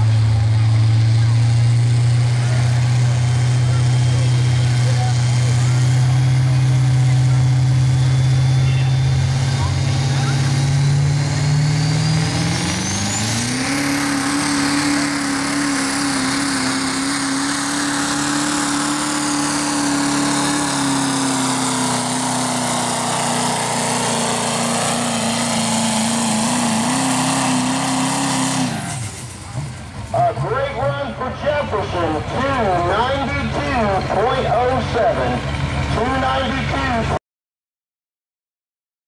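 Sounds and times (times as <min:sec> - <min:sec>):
diesel engine revving under load: 0:00.0 - 0:37.2.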